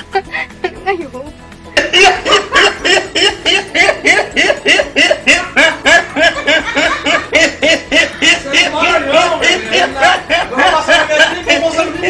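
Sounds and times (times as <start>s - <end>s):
man laughing hard: 1.8s - 12.0s.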